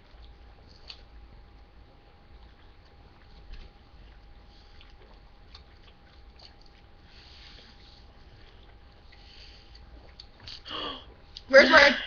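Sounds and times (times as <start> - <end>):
wet chewing and slurping: 0.0 - 10.7.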